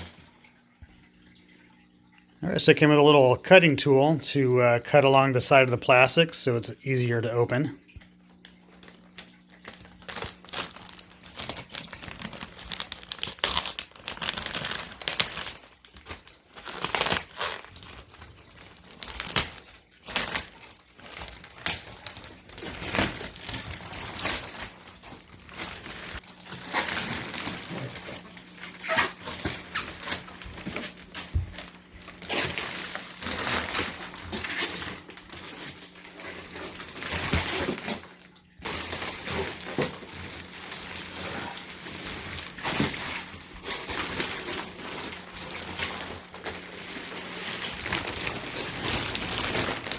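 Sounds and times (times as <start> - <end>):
plastic wrapping crinkling and tearing: 2.4 - 49.9.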